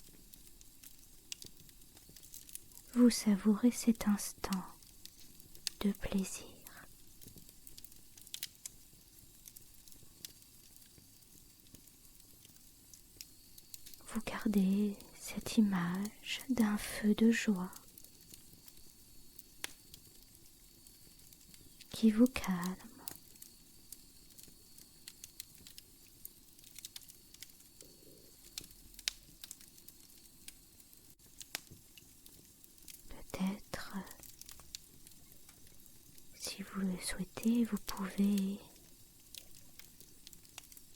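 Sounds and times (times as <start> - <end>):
soft low hiss: 0.0 - 40.9
wood fire crackling: 0.0 - 40.9.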